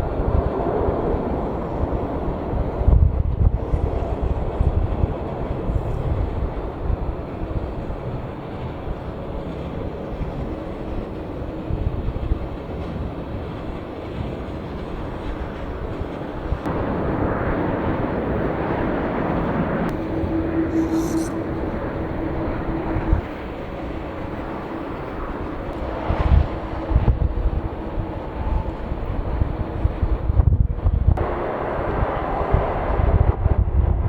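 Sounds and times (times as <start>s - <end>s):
jet engines rumbling: 0.0s - 34.0s
wind buffeting microphone: 0.0s - 34.0s.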